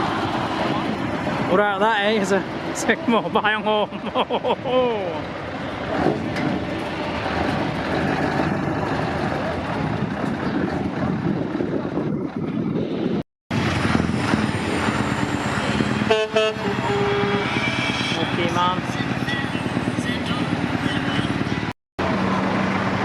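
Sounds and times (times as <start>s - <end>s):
truck diesel engine passing: 0.0s - 23.0s.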